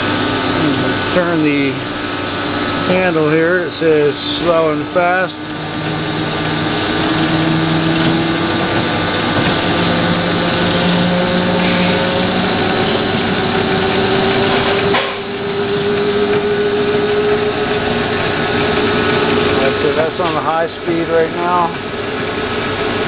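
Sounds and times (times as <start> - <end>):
band saw motor whine: 0.0 - 23.0.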